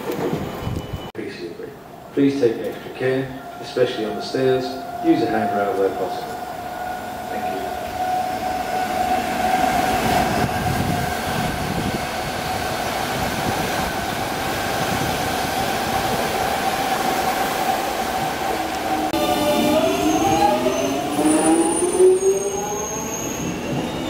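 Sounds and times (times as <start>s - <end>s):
train wheels rumbling on rails: 0.0s - 1.1s, 2.3s - 24.0s
second train electric whine: 1.7s - 24.0s
electric train traction whine: 2.7s - 24.0s.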